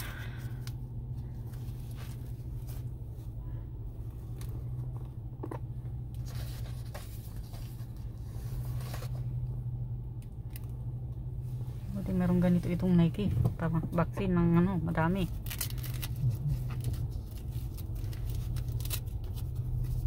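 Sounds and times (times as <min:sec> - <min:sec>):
car engine hum from inside: 0:00.0 - 0:20.0.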